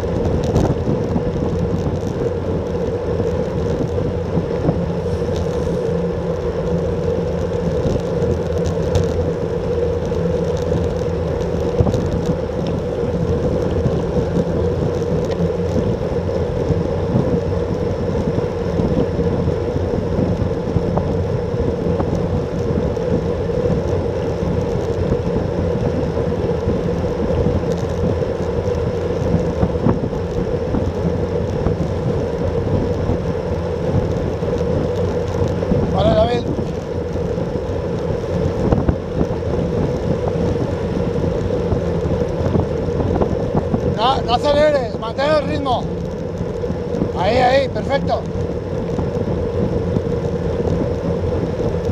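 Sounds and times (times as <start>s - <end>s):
constant hum: 0.0s - 51.9s
tyres rolling on asphalt: 0.0s - 51.9s
wind rushing over microphone: 0.0s - 51.9s.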